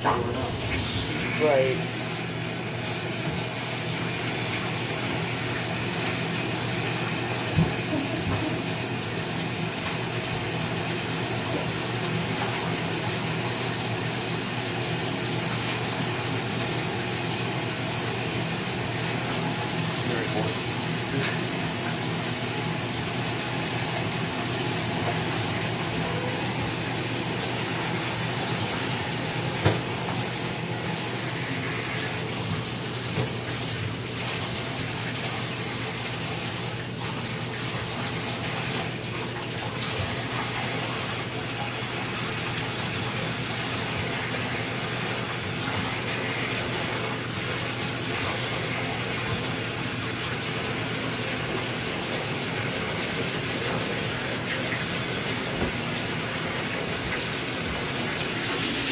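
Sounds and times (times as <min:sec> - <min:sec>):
bathtub tap running: 0:00.0 - 0:58.9.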